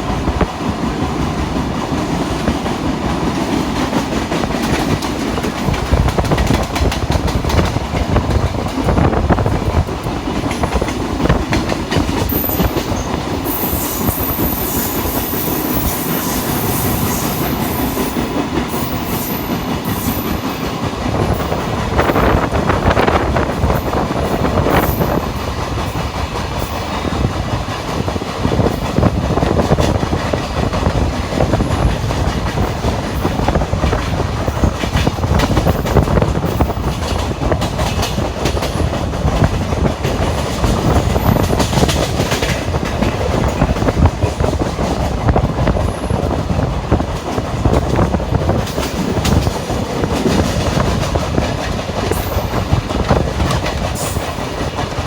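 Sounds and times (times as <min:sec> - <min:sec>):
train rumbling at speed: 0:00.0 - 0:55.0.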